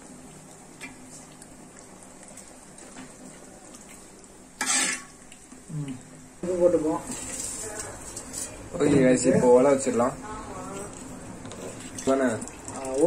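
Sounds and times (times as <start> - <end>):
faint liquid sloshing: 0.2 - 13.0
ladle stirring gravy in a pot: 0.3 - 5.7, 7.0 - 9.9, 10.8 - 13.0.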